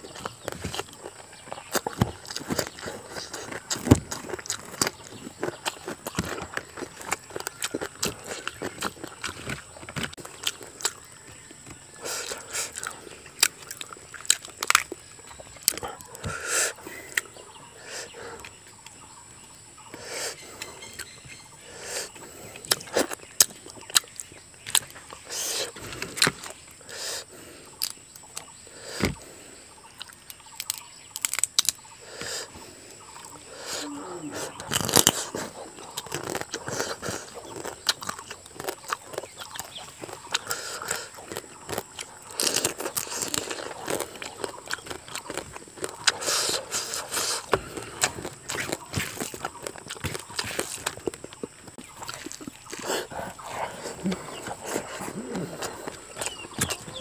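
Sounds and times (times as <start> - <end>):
crisp chewing and mouth smacks: 0.0 - 19.0, 20.3 - 28.6, 29.9 - 57.0.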